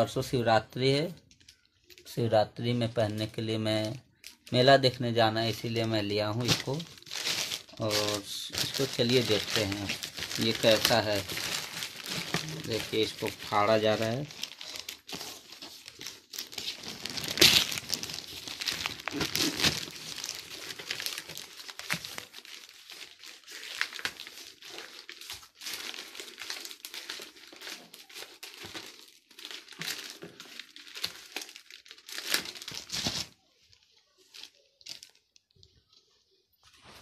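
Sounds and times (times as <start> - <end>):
plastic bag crinkling and ripping: 3.0 - 36.0.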